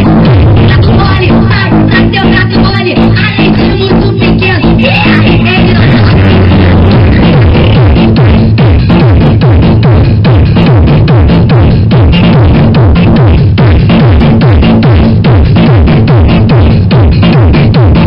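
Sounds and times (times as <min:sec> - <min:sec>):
deep bass note dropping in pitch: 0:00.0 - 0:02.1, 0:03.0 - 0:18.0
loud techno dance music: 0:00.0 - 0:18.0.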